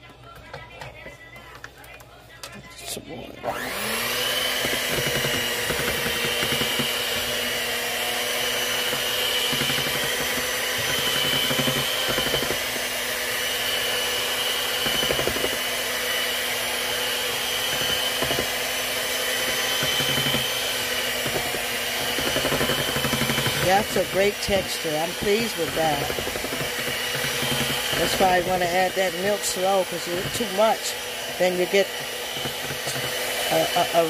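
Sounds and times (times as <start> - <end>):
beaters churning batter: 0.0 - 2.1, 3.4 - 34.0
electric hand mixer whining: 3.1 - 34.0.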